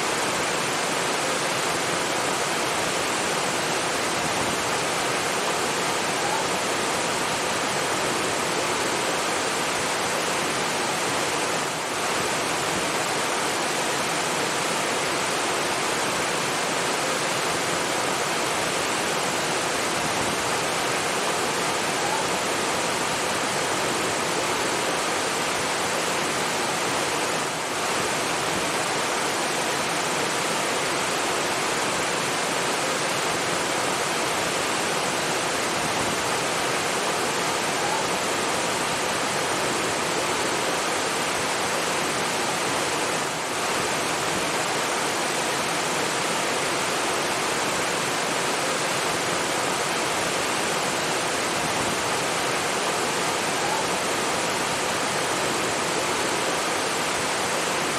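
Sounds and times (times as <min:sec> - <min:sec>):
flowing water rushing: 0:00.0 - 0:57.9.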